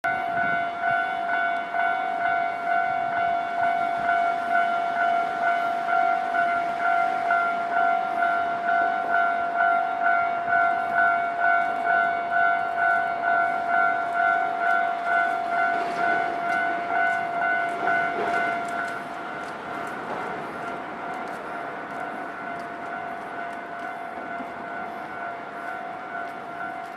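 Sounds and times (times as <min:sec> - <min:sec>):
level crossing warning bell: 0:00.1 - 0:26.9
steady warning tone: 0:00.1 - 0:26.9
train rumbling and clicking: 0:00.1 - 0:26.9.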